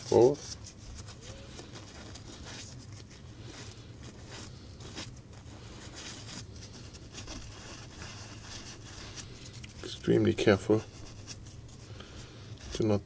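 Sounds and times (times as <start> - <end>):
tissue rubbing on speaker: 0.0 - 12.0.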